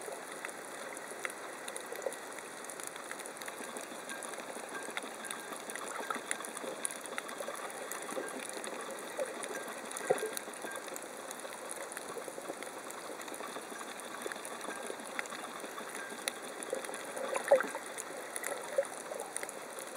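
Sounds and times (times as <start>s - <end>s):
crackle of small clicks: 0.0s - 19.9s.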